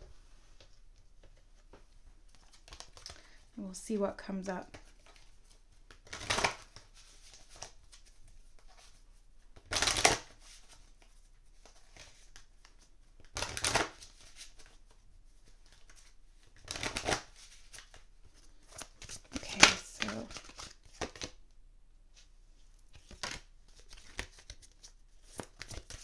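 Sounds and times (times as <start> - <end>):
cards being shuffled: 0.6 - 3.3, 4.6 - 21.4, 22.9 - 26.0.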